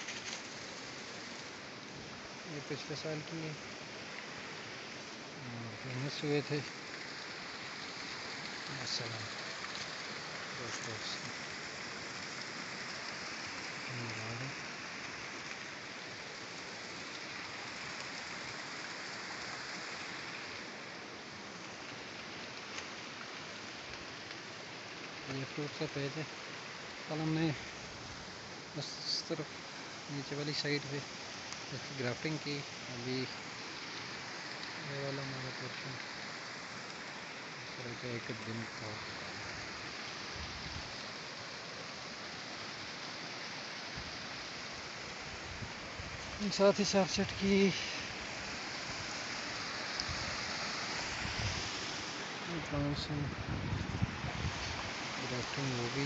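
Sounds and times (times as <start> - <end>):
outdoor background hiss: 0.0 - 56.0
stream running over rocks: 0.0 - 56.0.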